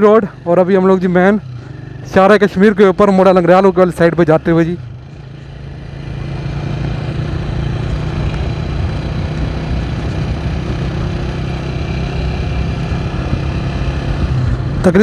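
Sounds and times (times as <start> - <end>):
road rumble: 0.0 - 15.0
vehicle engine hum: 0.0 - 15.0.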